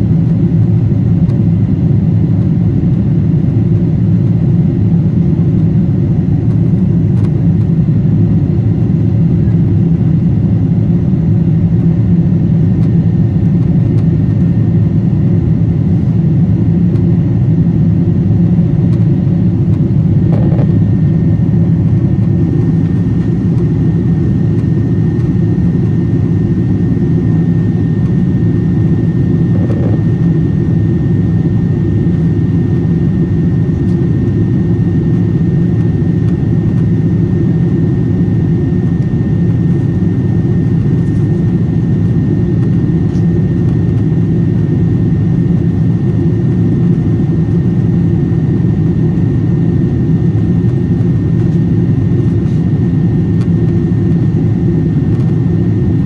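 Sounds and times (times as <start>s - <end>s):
jet engine and airflow rumble: 0.0s - 56.0s
thin constant whine: 0.0s - 56.0s.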